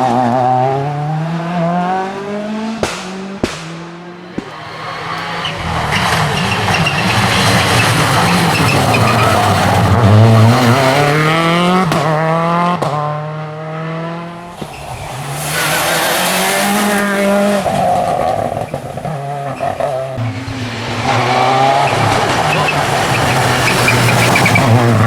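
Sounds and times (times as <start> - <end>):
rally car engine revving hard: 0.0 - 25.0.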